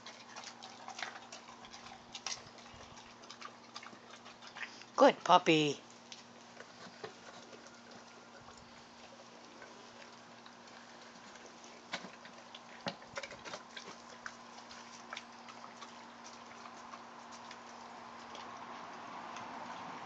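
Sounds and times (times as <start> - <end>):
dog chewing bones crunching: 0.0 - 20.0.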